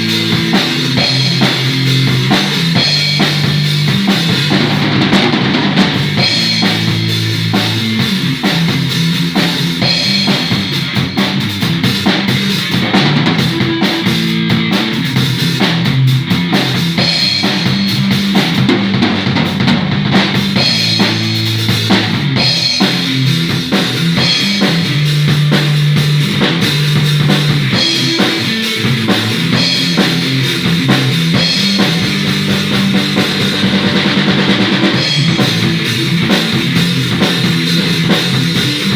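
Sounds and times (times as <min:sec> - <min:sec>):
drum kit playing: 0:00.0 - 0:38.9.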